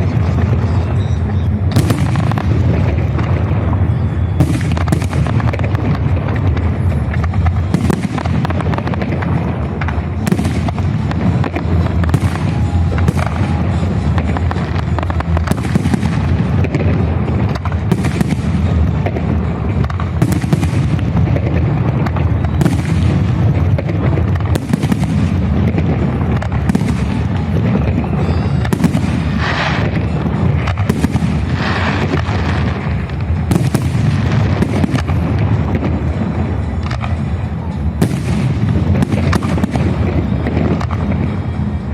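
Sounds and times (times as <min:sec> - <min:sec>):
fireworks crackling: 0:00.0 - 0:41.9
fireworks shells bursting: 0:00.0 - 0:41.9.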